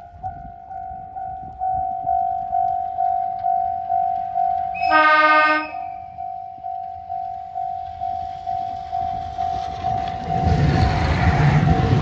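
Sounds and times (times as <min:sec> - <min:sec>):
railroad crossing bell ringing: 0:00.0 - 0:12.0
train rumbling on rails: 0:00.0 - 0:12.0.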